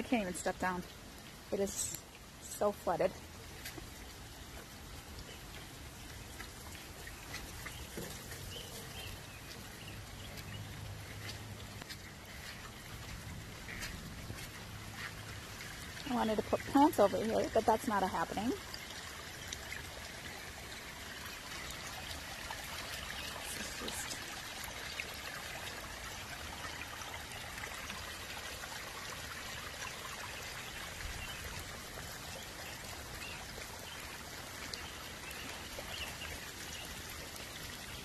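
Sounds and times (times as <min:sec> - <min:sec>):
floodwater running and trickling: 0:00.0 - 0:38.0.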